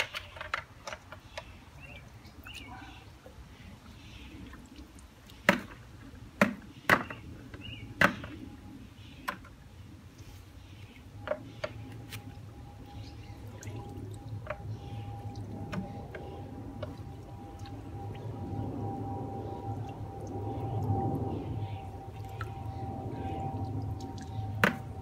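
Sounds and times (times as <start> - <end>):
water sloshing and dripping: 0.0 - 25.0.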